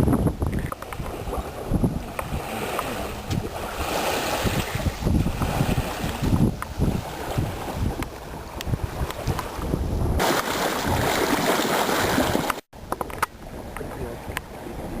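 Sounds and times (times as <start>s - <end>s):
water noise: 0.0s - 15.0s
wind on microphone: 0.0s - 15.0s.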